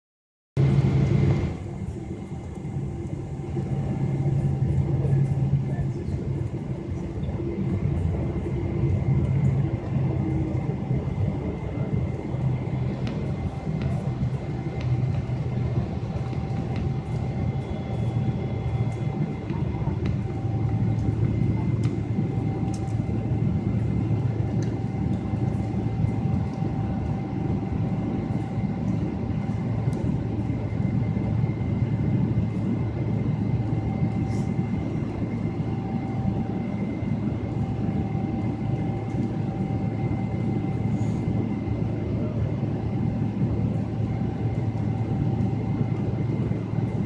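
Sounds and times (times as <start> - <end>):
airplane cabin engine rumble: 0.6 - 47.0.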